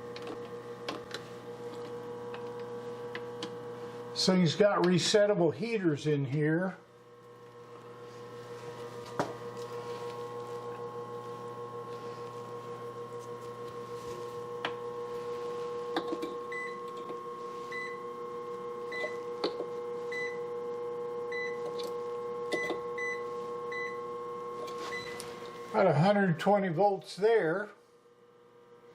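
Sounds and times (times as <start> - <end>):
electrical hum: 0.0 - 28.9.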